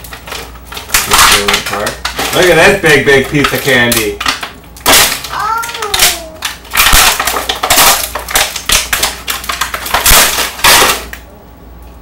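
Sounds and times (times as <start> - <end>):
aluminium foil crinkling: 0.0 - 11.2
glass candy cracking: 0.0 - 11.3.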